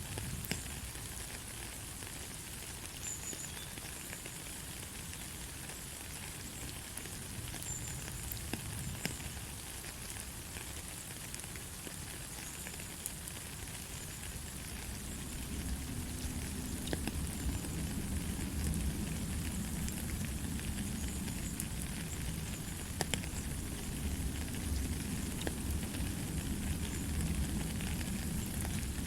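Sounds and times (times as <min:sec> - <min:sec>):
light rain falling: 0:00.0 - 0:29.0
sharp raindrop ticks: 0:00.1 - 0:01.5, 0:06.1 - 0:29.0.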